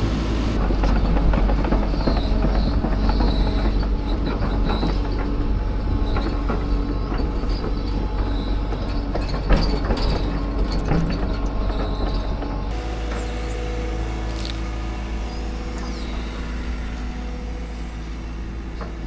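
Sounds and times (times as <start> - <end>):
excavator engine running: 0.0 - 19.0
track clanking and knocking: 0.0 - 19.0.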